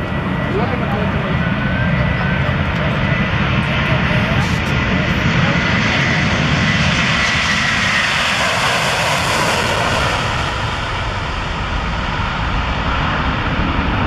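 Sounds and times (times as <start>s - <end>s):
jet engines at takeoff power: 0.0s - 14.0s.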